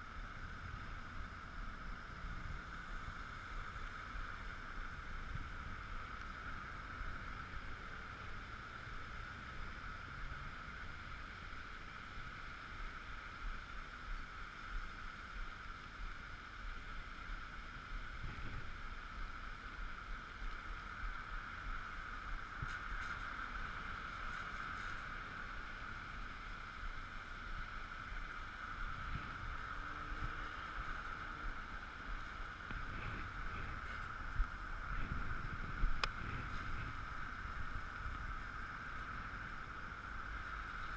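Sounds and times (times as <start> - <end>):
electric vehicle whine: 0.0 - 40.9
wind and road noise: 0.0 - 40.9.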